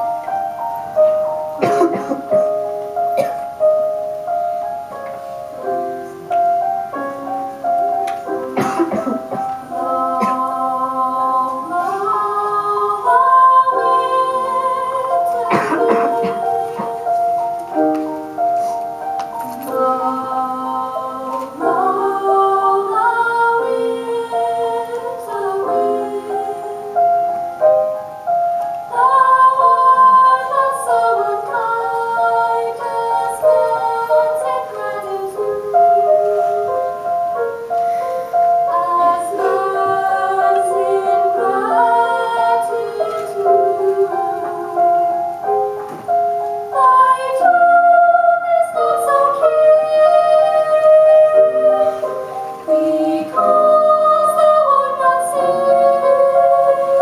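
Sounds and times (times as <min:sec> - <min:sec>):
chamber choir singing in harmony: 0:00.0 - 0:57.0.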